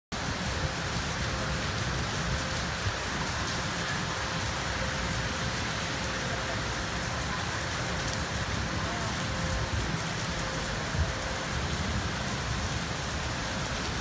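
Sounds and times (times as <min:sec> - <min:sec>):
rain falling on rooftops: 0:00.1 - 0:14.0.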